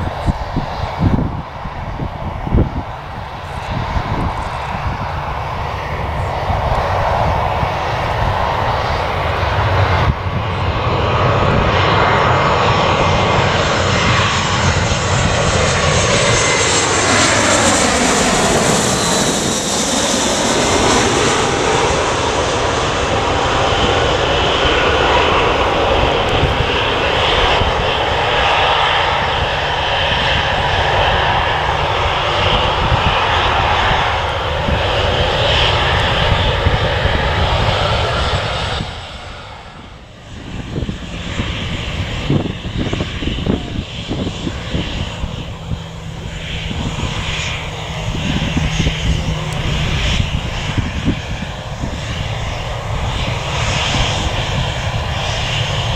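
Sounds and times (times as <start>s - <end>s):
plane engines roaring: 0.0s - 55.9s.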